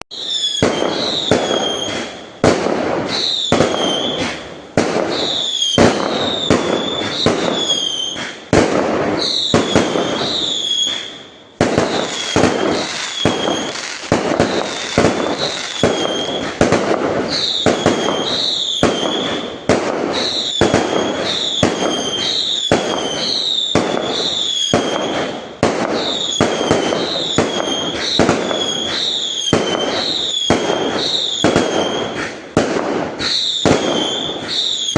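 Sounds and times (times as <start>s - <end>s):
fireworks bangs and crackle: 0.0s - 34.9s
whistling fireworks: 0.0s - 34.9s.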